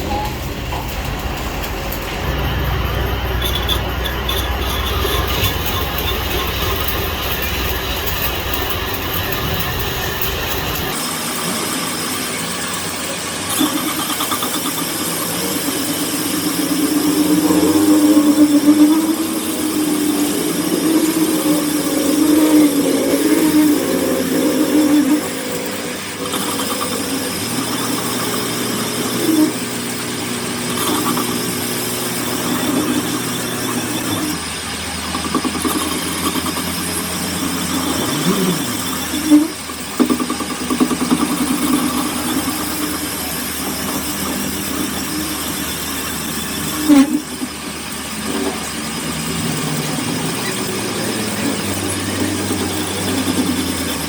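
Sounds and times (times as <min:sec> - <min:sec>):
machine squeals: 0:00.0 - 0:54.0
machinery motor hum: 0:00.0 - 0:54.0.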